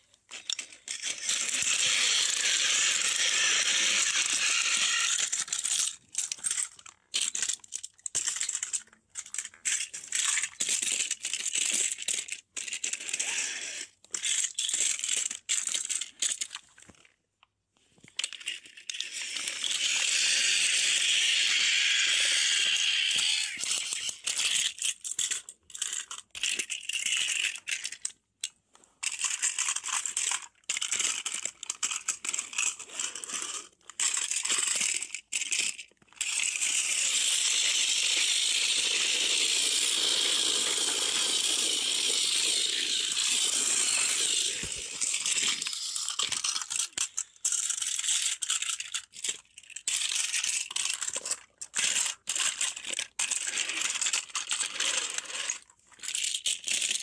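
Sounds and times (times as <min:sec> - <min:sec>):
toy train motor and wheels: 0:00.0 - 0:17.1, 0:18.0 - 0:57.0.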